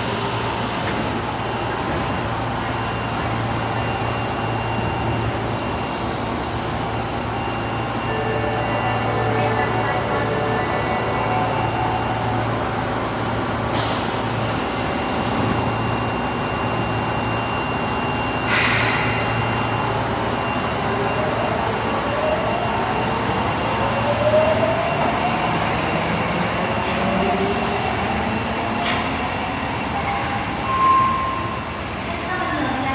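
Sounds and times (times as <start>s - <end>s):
subway train hum: 0.0s - 32.9s.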